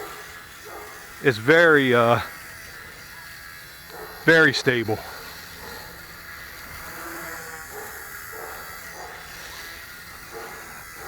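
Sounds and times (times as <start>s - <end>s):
rc helicopter buzzing whir: 0.0s - 11.0s.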